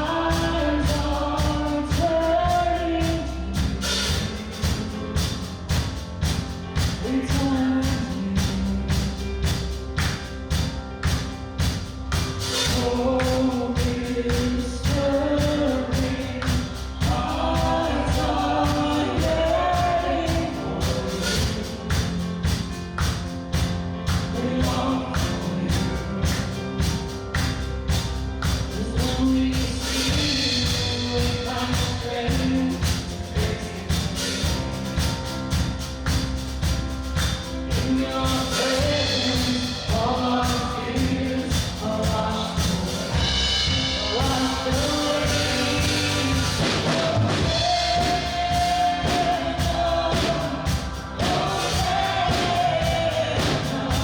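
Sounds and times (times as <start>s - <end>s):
drum beat: 0.0s - 54.0s
worship band with singers: 0.0s - 54.0s.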